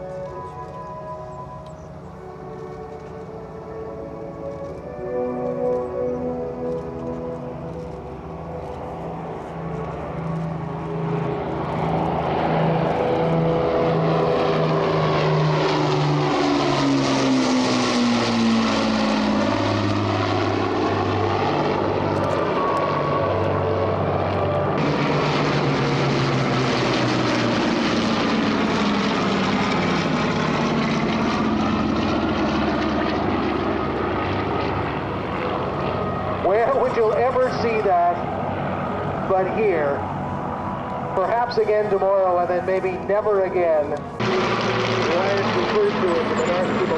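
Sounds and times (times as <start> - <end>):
propeller plane engines droning: 0.0 - 46.9.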